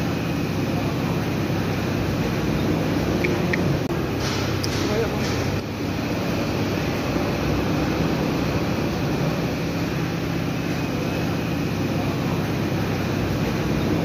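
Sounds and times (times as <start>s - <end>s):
overhead crane drone: 0.0s - 14.0s.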